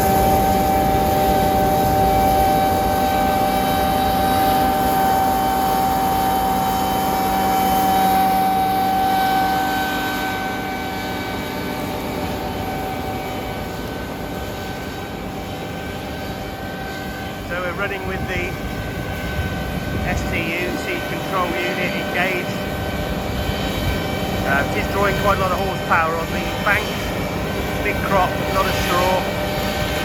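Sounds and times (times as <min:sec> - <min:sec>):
combine harvester drone: 0:00.0 - 0:30.0
high mechanical whine: 0:00.0 - 0:30.0.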